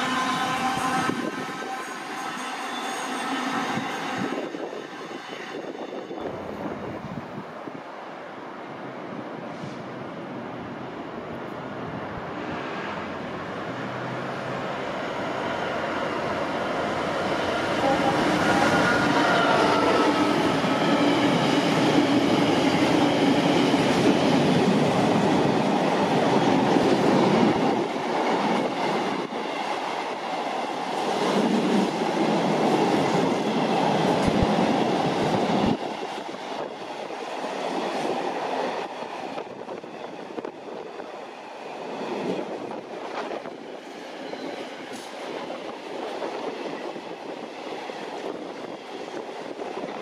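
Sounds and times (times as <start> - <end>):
train passing: 0.0 - 50.0.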